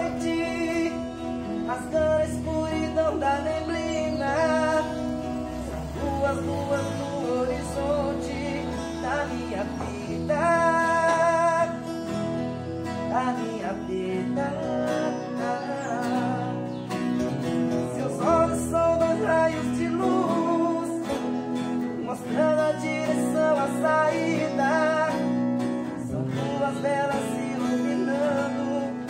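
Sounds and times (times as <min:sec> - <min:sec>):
acoustic guitars strummed: 0:00.0 - 0:29.0
man singing: 0:00.0 - 0:29.0.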